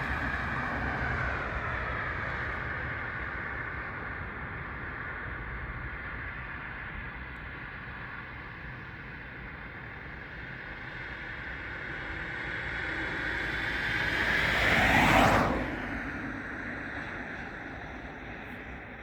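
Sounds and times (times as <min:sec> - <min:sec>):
airliner passing: 0:00.0 - 0:07.0, 0:07.9 - 0:19.0.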